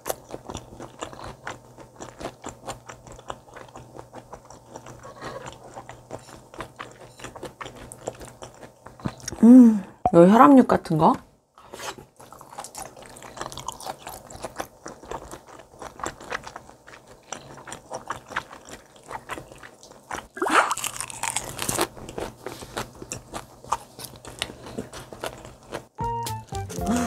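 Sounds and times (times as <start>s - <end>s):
chewing crunchy seaweed and fish: 0.0s - 9.5s, 11.8s - 27.0s.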